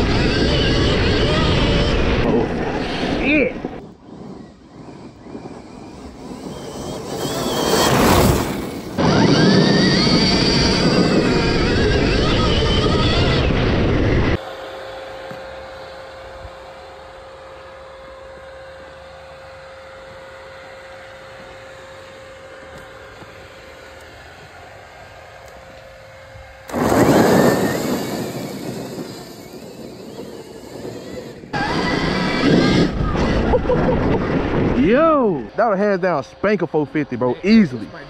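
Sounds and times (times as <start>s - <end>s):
electric dirt bike riding: 0.0s - 38.0s.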